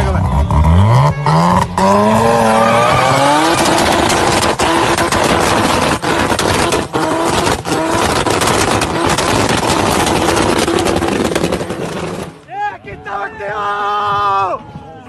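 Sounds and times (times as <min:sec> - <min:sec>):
car engine at high revs: 0:00.0 - 0:12.4.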